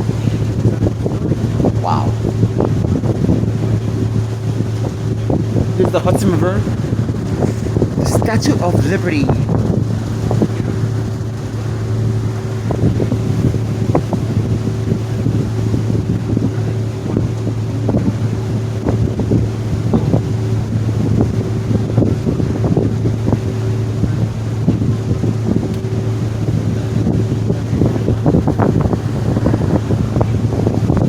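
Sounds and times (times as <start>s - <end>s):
ferry engine droning: 0.0s - 31.0s
wind on microphone: 0.0s - 31.0s.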